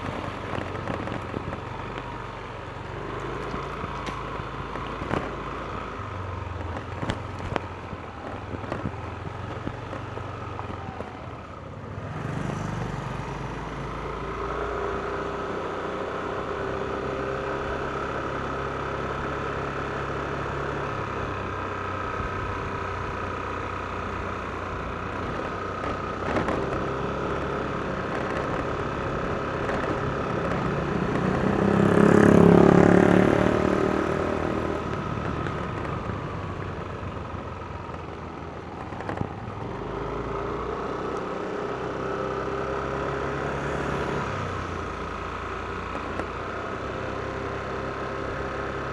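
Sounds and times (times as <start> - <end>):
scooter engine droning: 0.0 - 48.9.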